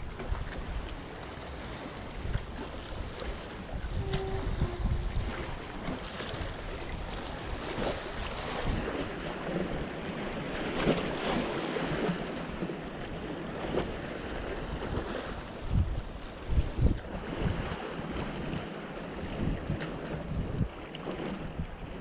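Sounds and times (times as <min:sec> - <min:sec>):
waves splashing against rocks: 0:00.0 - 0:22.0
wind rumbling on microphone: 0:00.0 - 0:22.0.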